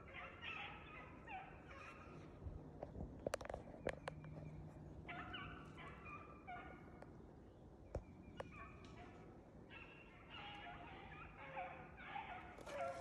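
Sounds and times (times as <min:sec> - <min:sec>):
hounds baying faintly: 0:00.0 - 0:07.2, 0:08.3 - 0:13.0.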